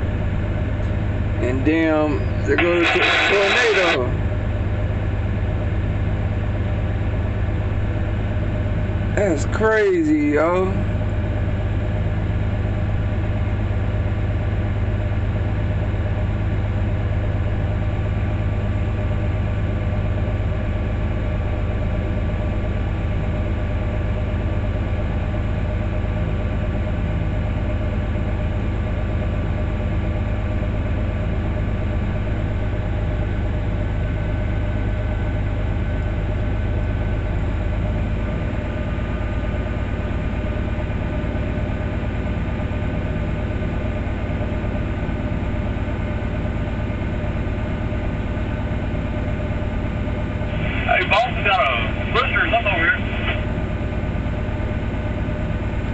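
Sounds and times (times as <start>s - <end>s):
heavy engine idling: 0.0s - 55.9s.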